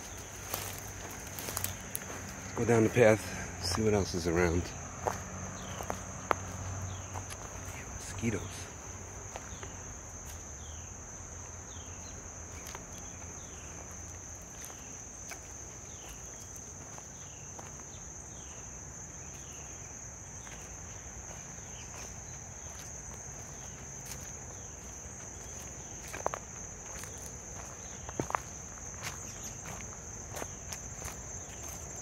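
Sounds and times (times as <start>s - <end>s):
footsteps on leafy dirt path: 0.0s - 32.0s
insect chorus trilling: 0.0s - 32.0s.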